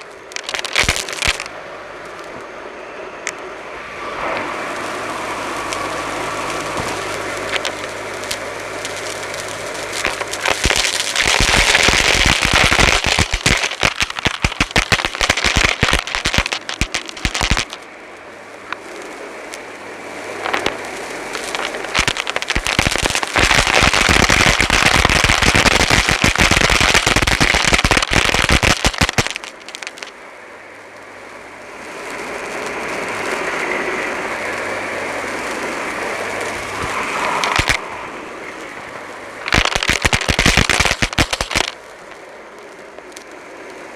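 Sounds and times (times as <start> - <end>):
vacuum crackling debris: 0.0 - 30.2, 30.8 - 43.4.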